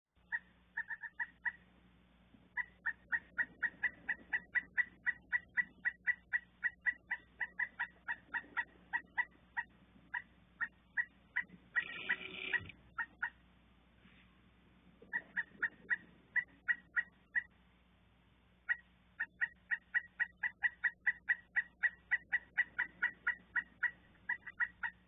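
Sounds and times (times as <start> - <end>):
woodpecker calling: 0.2 - 1.7, 2.5 - 13.5, 15.0 - 17.6, 18.6 - 25.0.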